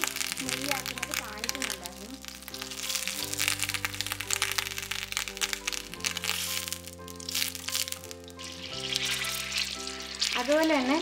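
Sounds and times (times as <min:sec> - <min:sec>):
background music of sustained chords: 0:00.0 - 0:11.0
butter sizzling in a pan: 0:00.0 - 0:11.0.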